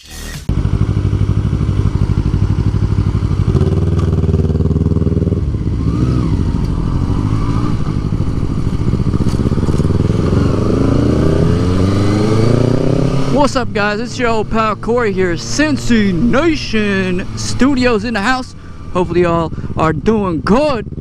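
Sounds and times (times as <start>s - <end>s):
motorcycle engine running: 0.5s - 21.0s.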